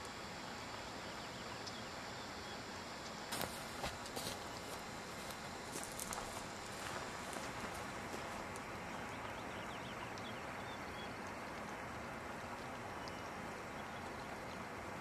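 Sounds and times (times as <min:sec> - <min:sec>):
faint high chirps and ticks: 0:00.0 - 0:14.7
quiet outdoor hiss: 0:00.0 - 0:15.0.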